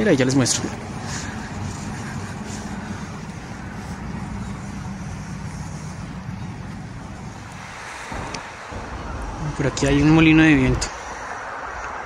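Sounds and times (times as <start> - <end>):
road traffic hum: 0.0 - 12.0
faint low drone: 0.6 - 12.0.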